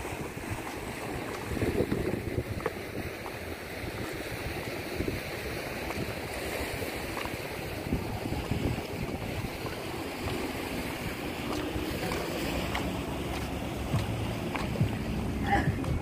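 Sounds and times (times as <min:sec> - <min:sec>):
steady outdoor wash: 0:00.0 - 0:16.0
wind buffeting microphone: 0:00.0 - 0:16.0.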